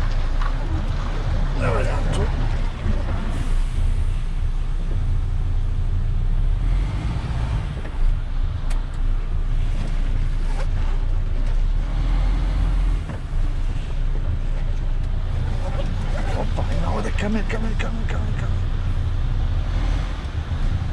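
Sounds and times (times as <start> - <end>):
diesel truck engine rumbling: 0.0 - 20.9.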